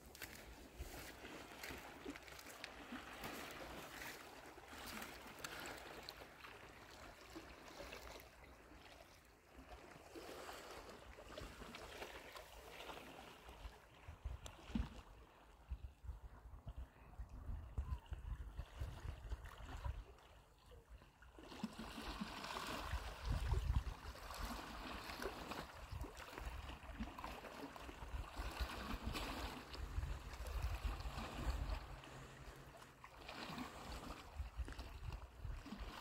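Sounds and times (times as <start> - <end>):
small waves lapping at shore: 0.0 - 36.0.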